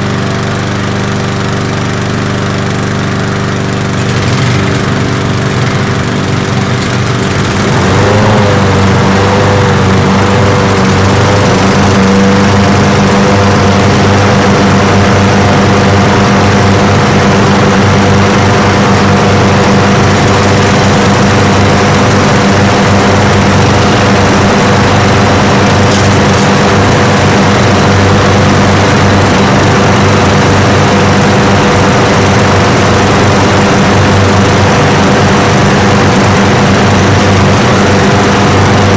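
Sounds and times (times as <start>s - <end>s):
lawn mower engines running: 0.0s - 38.9s
lawn mower starting: 0.0s - 38.9s.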